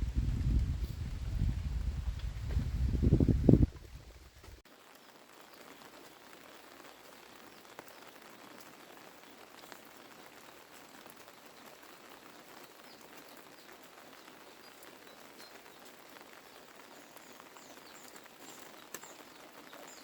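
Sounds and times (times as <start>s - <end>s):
faint rain pattering: 0.0s - 20.0s.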